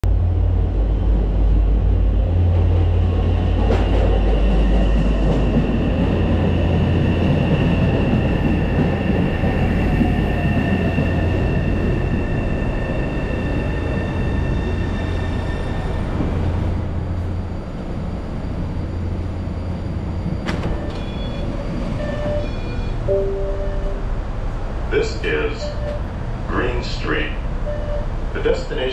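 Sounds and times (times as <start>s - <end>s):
subway train rumble with high whine: 0.0s - 28.9s.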